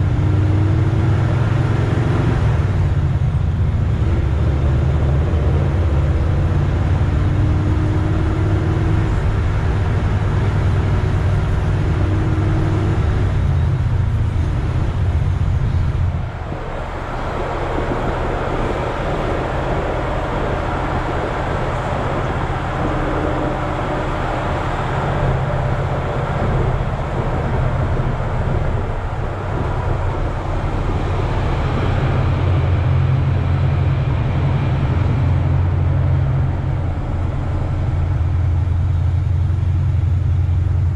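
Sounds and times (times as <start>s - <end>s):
car engine and exhaust rumbling: 0.0s - 40.9s
road noise: 0.0s - 40.9s.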